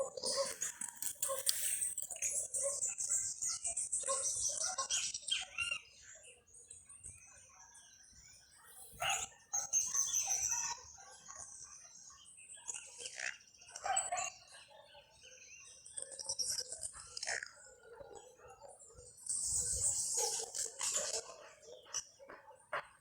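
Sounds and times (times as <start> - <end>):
birds chirping and singing: 0.0 - 23.0.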